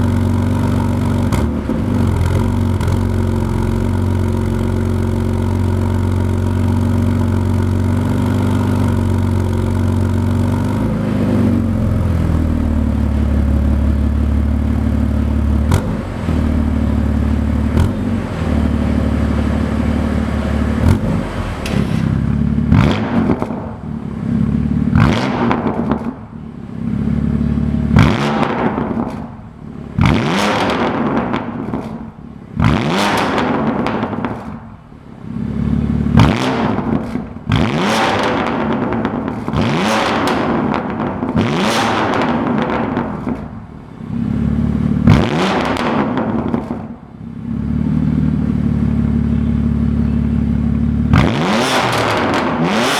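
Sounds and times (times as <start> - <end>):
car engine idling and revving: 0.0 - 52.9
exhaust cracks: 0.0 - 52.9.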